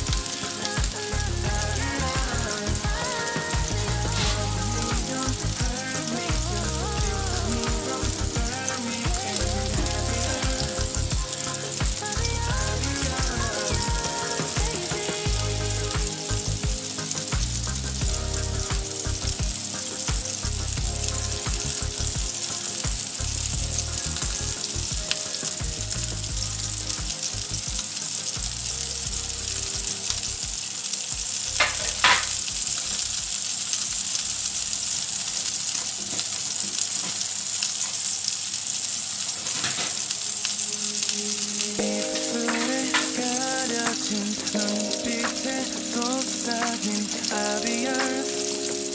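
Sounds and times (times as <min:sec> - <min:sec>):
soft background music: 0:00.0 - 0:34.5, 0:39.1 - 0:48.9
steak sizzling in oil: 0:07.4 - 0:48.9.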